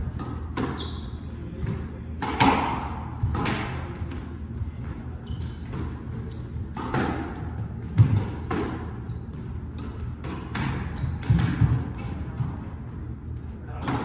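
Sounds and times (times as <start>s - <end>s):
squash ball striking rackets and walls: 0.0s - 13.1s, 13.7s - 14.0s.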